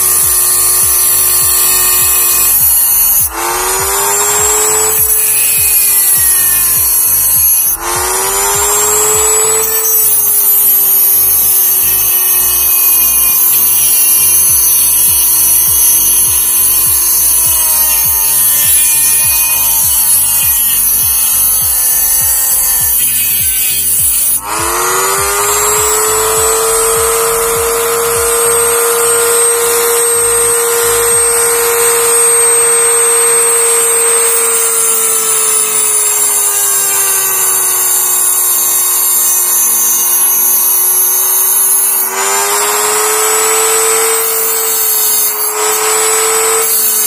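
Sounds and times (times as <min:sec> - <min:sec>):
die grinder whining: 0:00.0 - 0:47.0.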